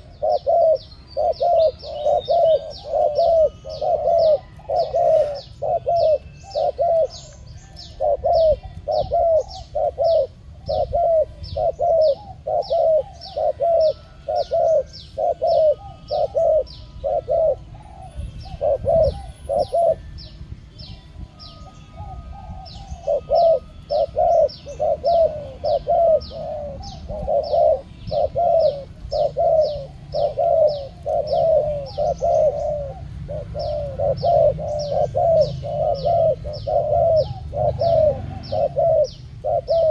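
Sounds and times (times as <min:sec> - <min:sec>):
doves cooing: 0:00.0 - 0:20.4, 0:21.2 - 0:39.9.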